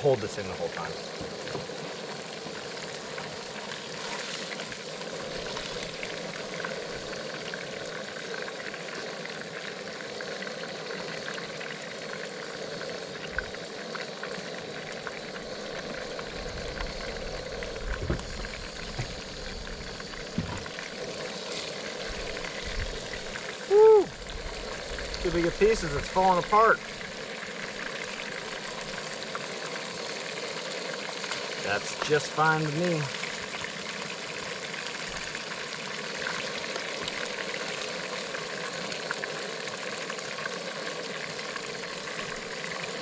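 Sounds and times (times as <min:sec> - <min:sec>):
fish sizzling in hot oil: 0:00.0 - 0:43.0.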